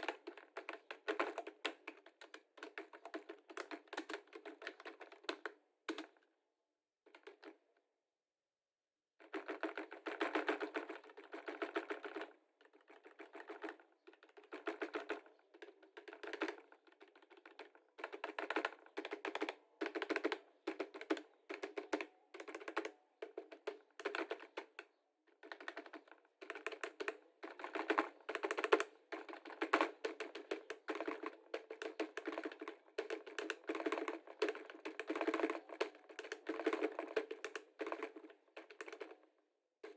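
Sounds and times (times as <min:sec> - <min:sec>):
computer keyboard typing: 0:00.0 - 0:06.0, 0:09.3 - 0:24.8, 0:25.4 - 0:39.2.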